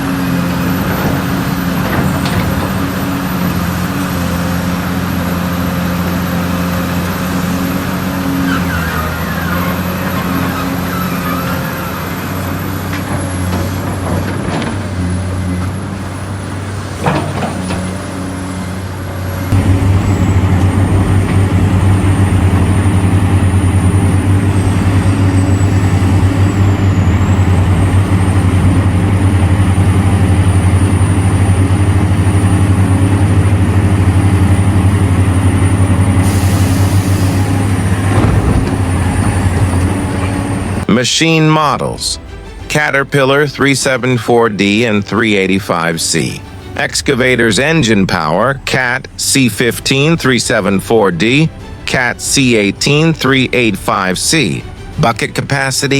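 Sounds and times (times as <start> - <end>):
large diesel engines droning: 0.0 - 55.9.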